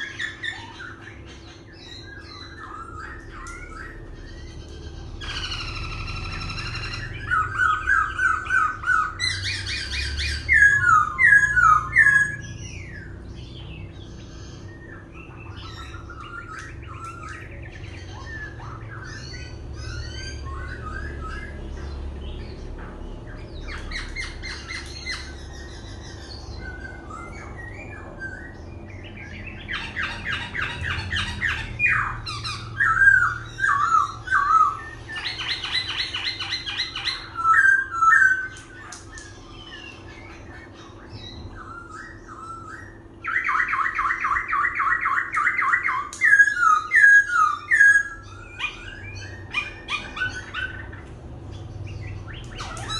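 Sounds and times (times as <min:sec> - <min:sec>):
bird singing varied song: 0:00.0 - 0:52.9.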